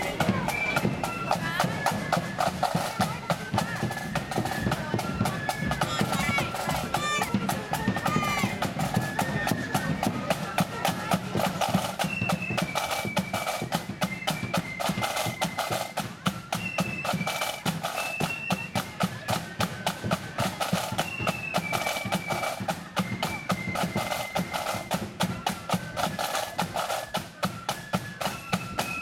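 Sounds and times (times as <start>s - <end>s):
high flute melody: 0.0s - 29.0s
rapid snare drumming: 0.0s - 29.0s.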